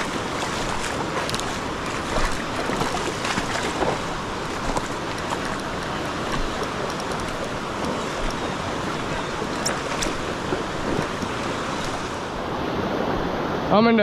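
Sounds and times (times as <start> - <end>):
river flowing over rocks: 0.0 - 14.0.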